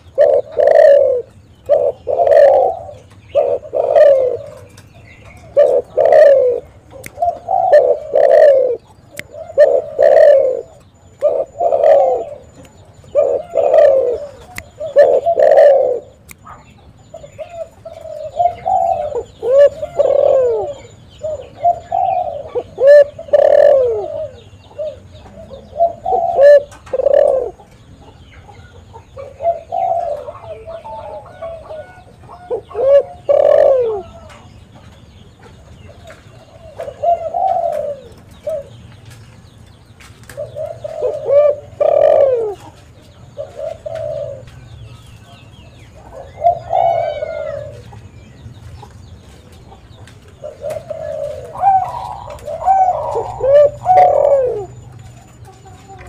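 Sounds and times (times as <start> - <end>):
dove cooing: 0.0 - 34.5, 35.4 - 38.8, 40.2 - 48.1, 49.7 - 56.0.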